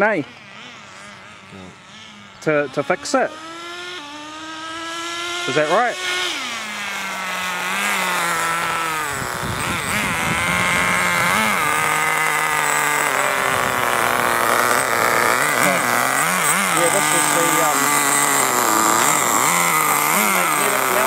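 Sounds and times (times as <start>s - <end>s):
small nitro engine buzzing: 0.0s - 21.0s.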